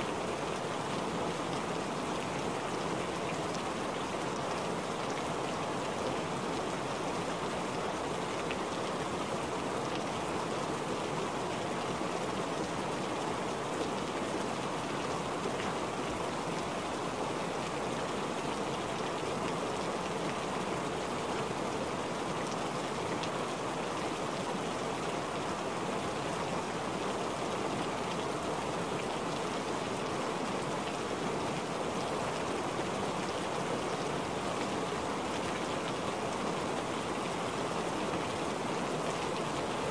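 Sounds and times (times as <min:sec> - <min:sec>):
rain splashing on water: 0:00.0 - 0:39.9.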